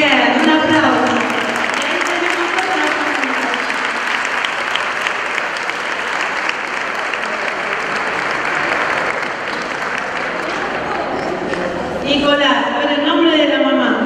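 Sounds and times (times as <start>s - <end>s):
audience applauding: 0.4s - 12.0s.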